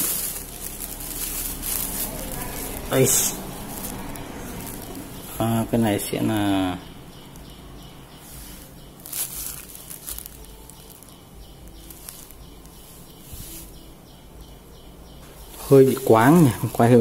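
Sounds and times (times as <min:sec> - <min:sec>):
soft rustling: 0:00.0 - 0:14.4
background hiss: 0:00.0 - 0:17.0.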